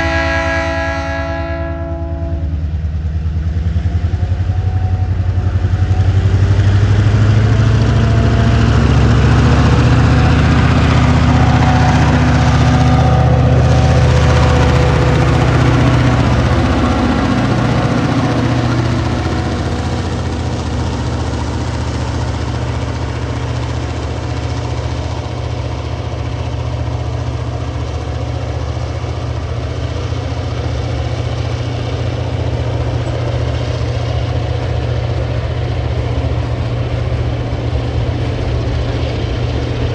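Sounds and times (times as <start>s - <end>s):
diesel locomotives working hard: 0.0s - 39.9s.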